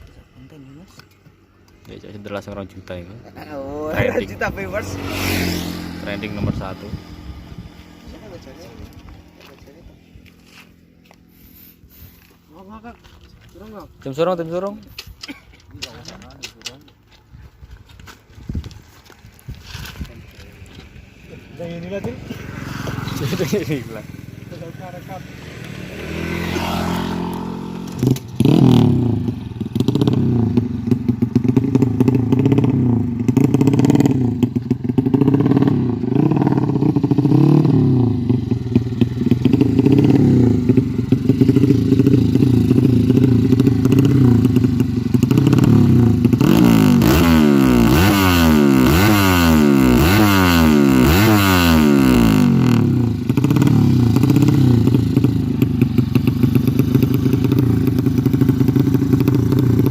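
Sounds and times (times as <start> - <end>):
motorcycle engine revving: 1.9 - 12.9, 18.6 - 59.9.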